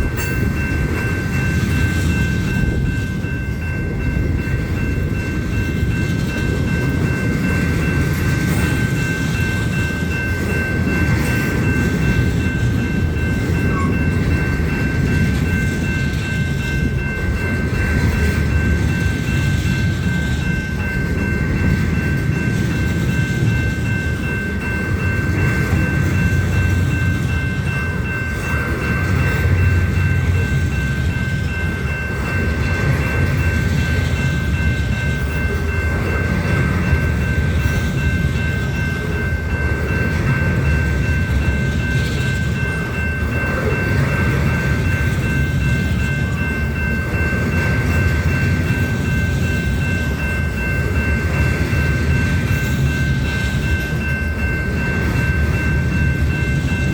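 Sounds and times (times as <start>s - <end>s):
freight train cars rolling past: 0.0s - 56.9s.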